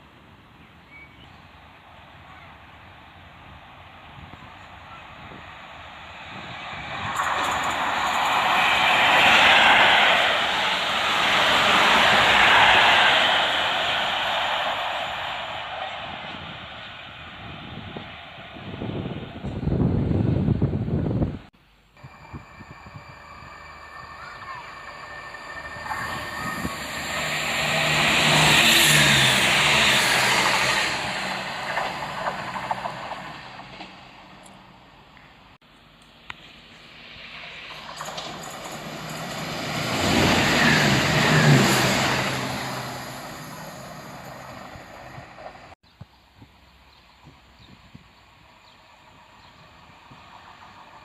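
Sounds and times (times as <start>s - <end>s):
train passing close by: 1.4s - 35.6s, 36.4s - 45.8s, 48.4s - 51.0s.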